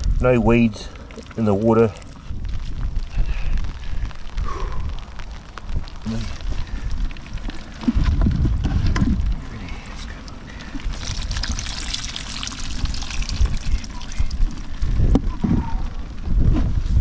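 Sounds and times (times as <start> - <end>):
water pouring and trickling: 0.0 - 4.3, 5.2 - 16.4.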